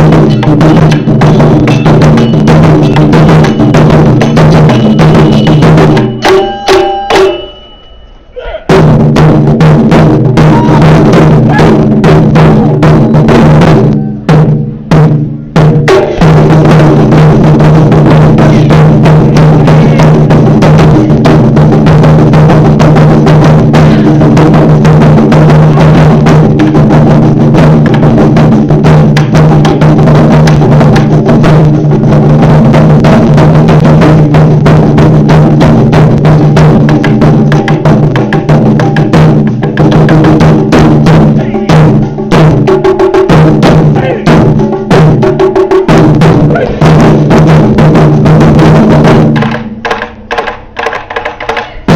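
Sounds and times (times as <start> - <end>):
large drums drumming: 0.0 - 7.4, 8.7 - 51.9.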